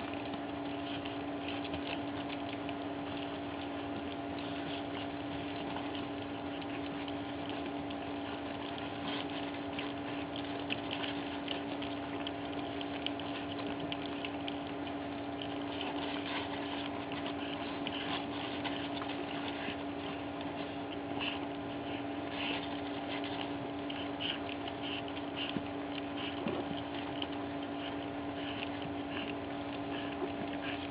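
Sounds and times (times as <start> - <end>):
puppies lapping wet food: 0.0 - 30.9
steady hum: 0.0 - 30.9.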